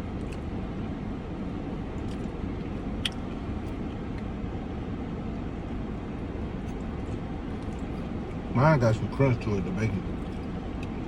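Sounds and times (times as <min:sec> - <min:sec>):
car idling from inside cabin: 0:00.0 - 0:11.0.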